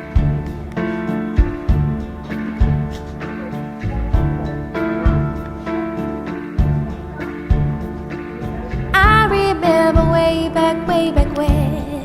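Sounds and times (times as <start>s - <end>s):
instrumental pop music with beat: 0.0s - 12.0s.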